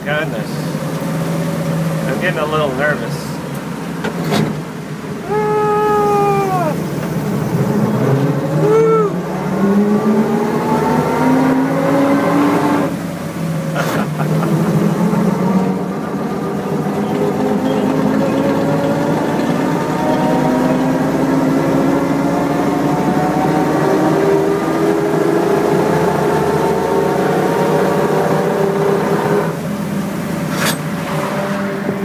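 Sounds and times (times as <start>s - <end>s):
truck engine pulling: 0.0s - 32.0s.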